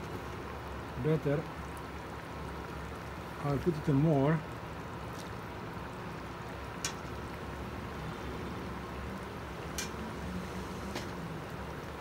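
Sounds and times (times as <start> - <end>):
beans bubbling in a pan: 0.0 - 12.0.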